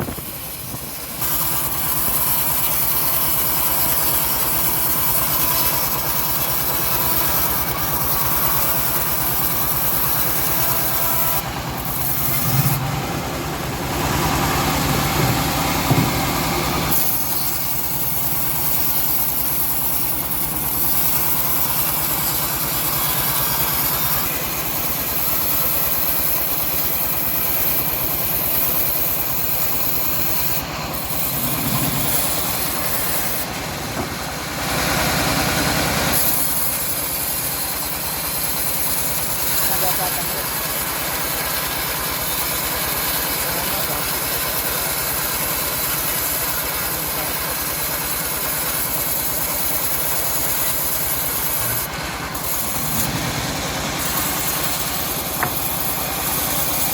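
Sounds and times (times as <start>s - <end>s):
saw blade rasping through log: 0.0s - 56.9s
sawmill engine running: 0.0s - 56.9s.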